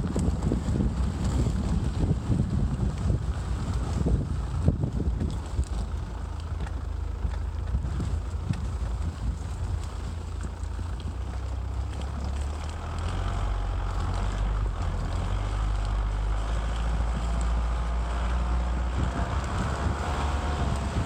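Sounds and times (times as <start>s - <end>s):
motorcycle engine running: 0.0s - 21.0s
wind rumble on microphone: 0.0s - 21.0s.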